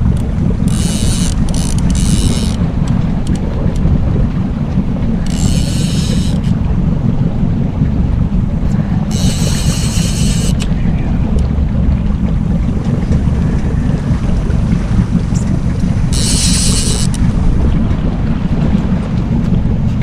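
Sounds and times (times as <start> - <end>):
boat motor rumbling: 0.0 - 20.0
wind buffeting microphone: 0.0 - 20.0.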